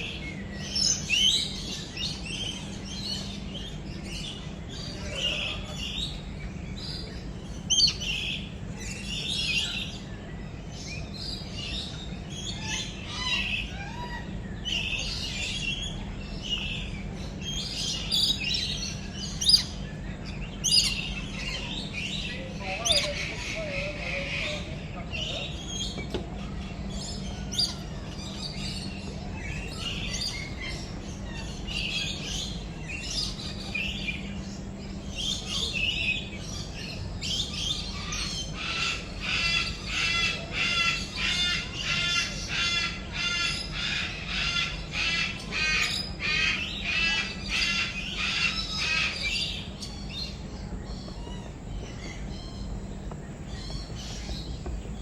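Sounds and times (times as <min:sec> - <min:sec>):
birds chirping and squawking: 0:00.0 - 0:55.0
harsh repeated bird calls: 0:00.0 - 0:55.0
steady low hum: 0:00.0 - 0:55.0.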